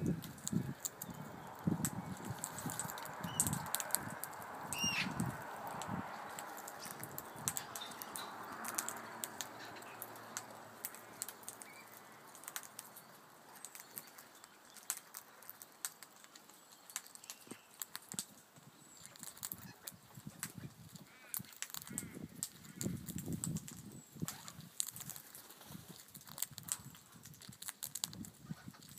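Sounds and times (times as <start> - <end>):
soft bird calls: 0.0 - 28.9
beaks cracking seed on wood: 0.1 - 28.9.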